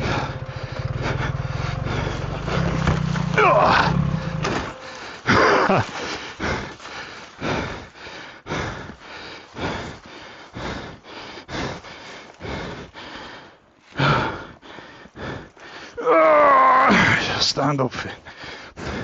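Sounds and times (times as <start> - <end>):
man panting hard: 0.0 - 19.0.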